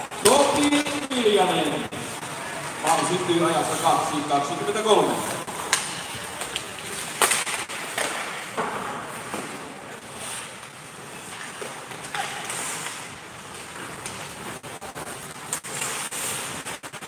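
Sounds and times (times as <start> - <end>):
skate blades scraping ice: 0.2 - 17.0
sticks and puck clacking: 2.0 - 17.0.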